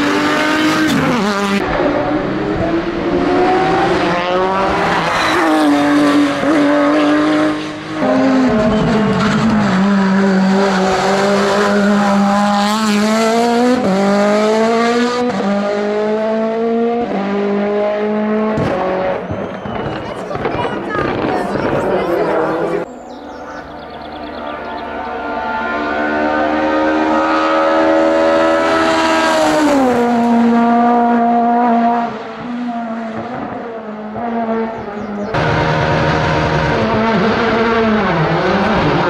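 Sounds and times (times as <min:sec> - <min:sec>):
race car engine at full throttle: 0:00.0 - 0:39.0.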